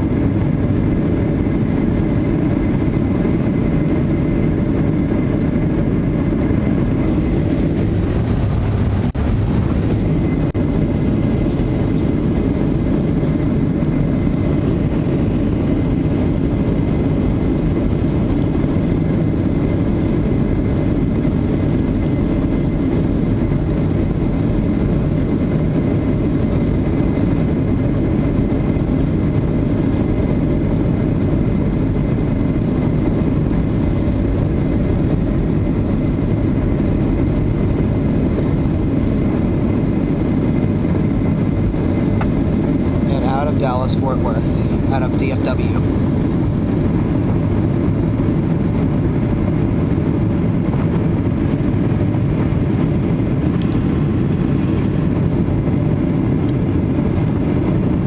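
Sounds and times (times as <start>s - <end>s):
jet engines low rumble: 0.0s - 58.0s.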